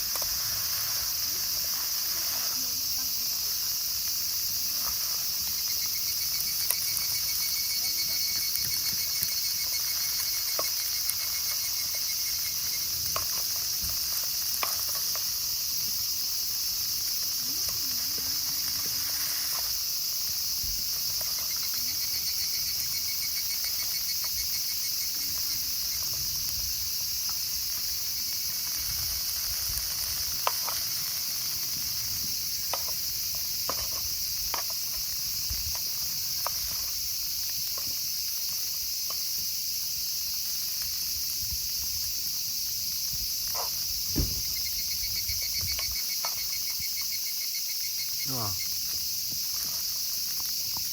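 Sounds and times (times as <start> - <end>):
crickets and insects chirping: 0.0 - 50.9.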